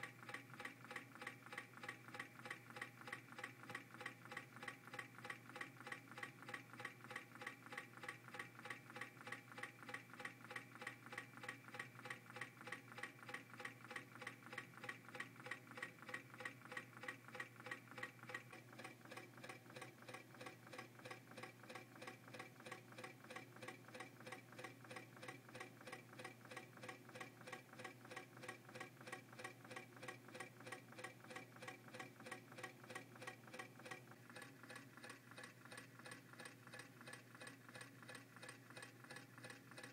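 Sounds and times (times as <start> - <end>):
small engine linkage ticking: 0.0 - 39.9.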